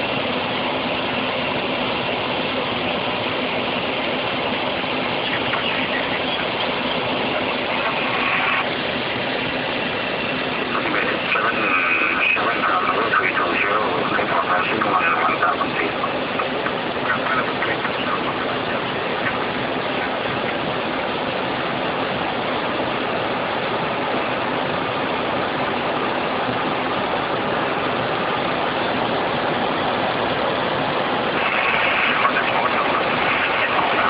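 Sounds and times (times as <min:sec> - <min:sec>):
jet cockpit roar: 0:00.0 - 0:34.0.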